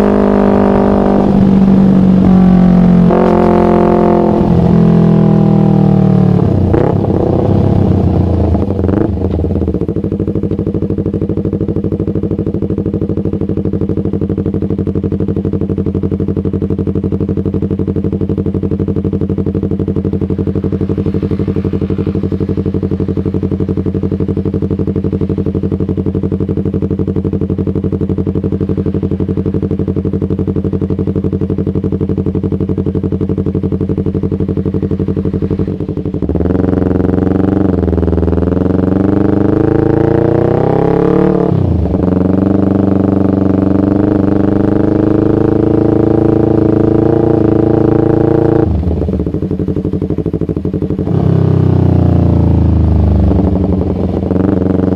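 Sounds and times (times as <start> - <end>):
motorcycle engine idling: 1.1 - 3.1, 4.3 - 40.8, 41.4 - 54.9.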